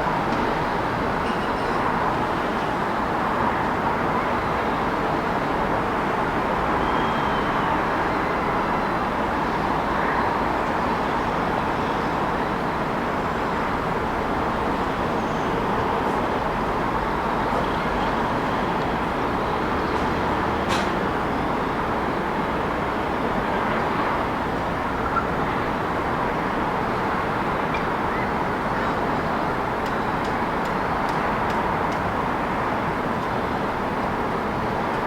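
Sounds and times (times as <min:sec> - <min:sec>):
city road traffic hum: 0:00.0 - 0:35.0.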